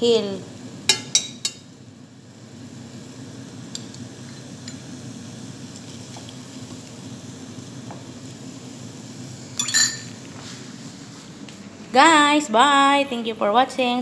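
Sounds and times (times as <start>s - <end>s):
onions sizzling in oil: 0.0s - 11.4s.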